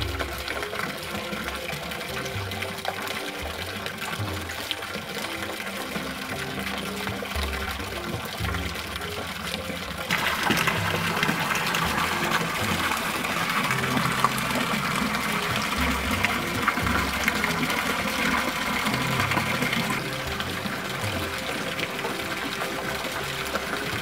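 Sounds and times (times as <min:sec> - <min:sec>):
water gushing into pool: 0:00.0 - 0:24.0.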